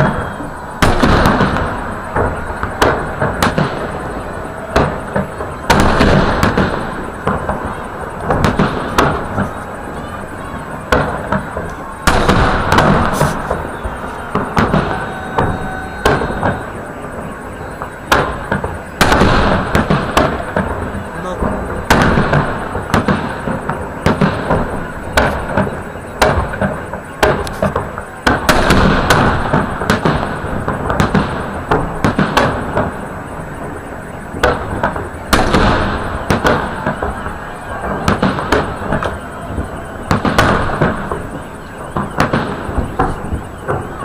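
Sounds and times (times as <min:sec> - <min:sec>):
continuous noisy din: 0:00.0 - 0:44.0
fireworks bursting with loud bangs: 0:00.0 - 0:44.0.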